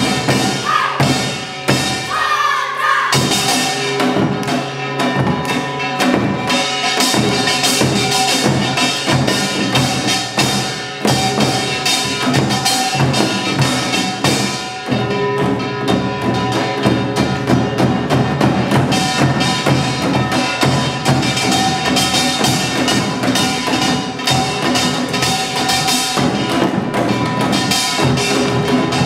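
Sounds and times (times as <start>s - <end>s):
drums in fast rhythm: 0.0s - 29.0s
gongs ringing: 0.0s - 29.0s.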